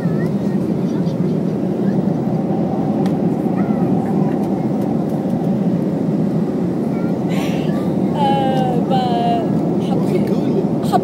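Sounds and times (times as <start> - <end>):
airliner cabin rushing hum: 0.0 - 11.0.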